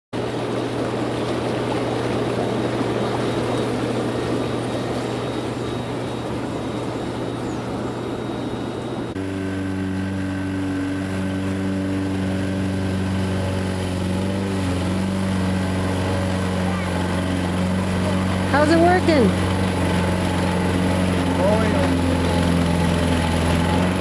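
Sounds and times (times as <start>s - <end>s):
even engine hum: 0.2s - 24.0s
lawn mower engine running: 0.2s - 24.0s.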